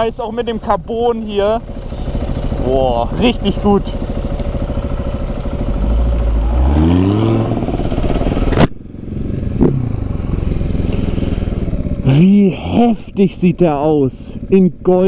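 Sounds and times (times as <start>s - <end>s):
car and motorcycle engines revving: 0.0s - 15.0s
steady pulsing engine: 0.0s - 15.0s.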